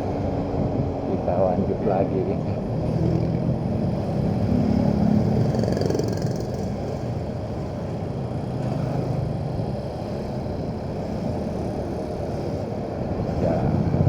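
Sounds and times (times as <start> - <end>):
road and wind rumble: 0.0 - 14.0
motorcycle engine running: 2.3 - 14.0.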